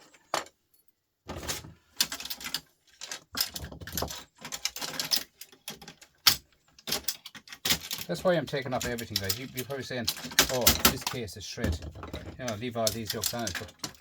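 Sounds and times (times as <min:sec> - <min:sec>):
metal parts and tools clattering: 0:00.0 - 0:00.7, 0:01.3 - 0:14.0.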